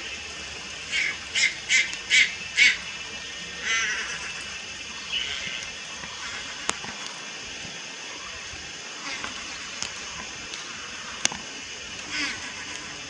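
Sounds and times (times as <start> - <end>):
heron raspy call: 0.0 - 7.4, 8.0 - 13.0
steady hiss: 0.0 - 13.0.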